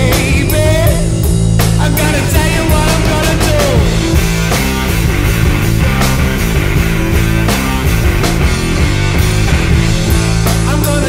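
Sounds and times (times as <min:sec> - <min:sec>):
heavy rock band playing: 0:00.0 - 0:11.0
steady drum hits: 0:00.0 - 0:11.0.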